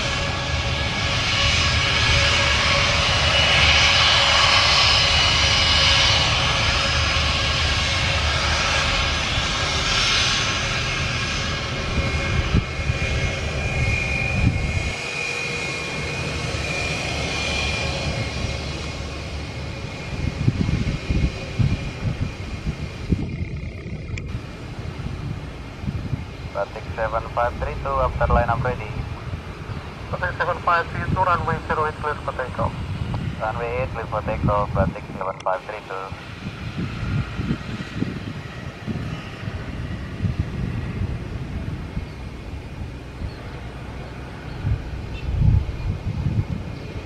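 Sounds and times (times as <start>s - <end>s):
jet engines whining: 0.0s - 47.0s.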